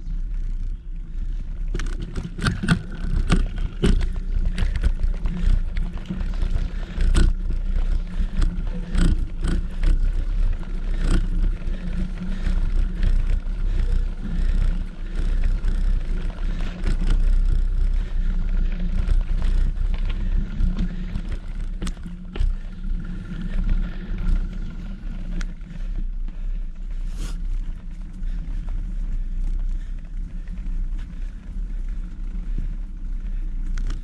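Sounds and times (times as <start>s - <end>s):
bicycle tyre rumble: 0.0s - 34.0s
bike clicks and rattles: 0.0s - 34.0s.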